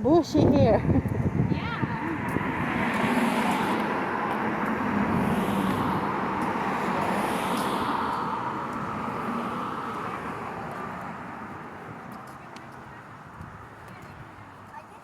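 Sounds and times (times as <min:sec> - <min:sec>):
passing vehicle rushing hum: 0:00.6 - 0:14.7.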